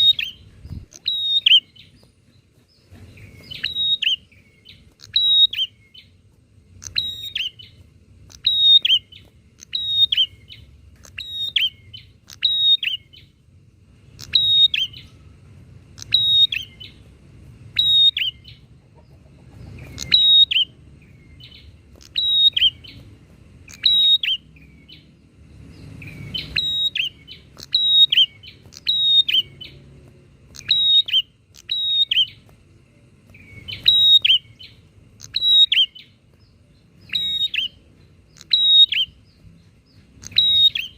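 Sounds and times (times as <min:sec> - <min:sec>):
birds chirping: 0:00.0 - 0:40.9
faint low rumble: 0:00.0 - 0:40.9.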